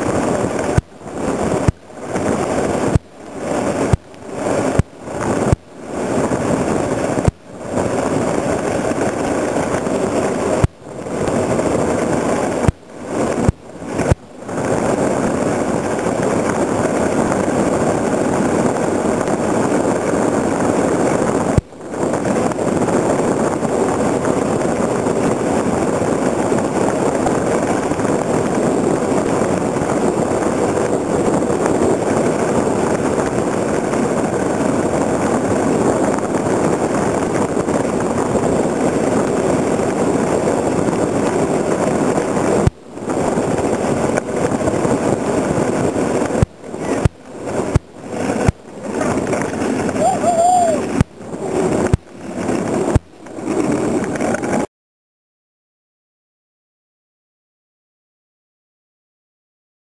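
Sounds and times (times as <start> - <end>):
cart wheels rolling on wet asphalt: 0.0 - 54.7
wind rushing: 0.0 - 54.7.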